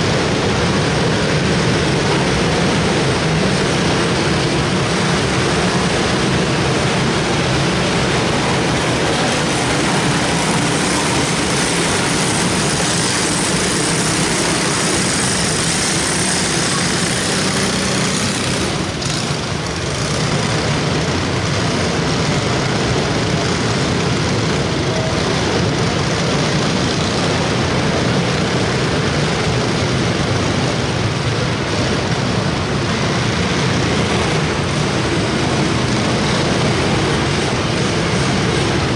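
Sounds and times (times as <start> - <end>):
small racing engines running: 0.0 - 38.9.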